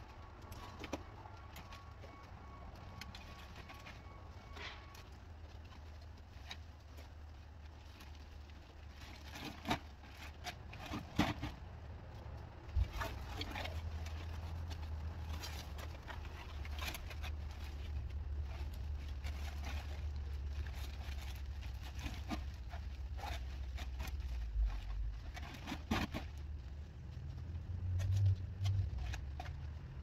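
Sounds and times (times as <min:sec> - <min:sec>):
roofing scraps knocking and scraping: 0:00.0 - 0:27.3.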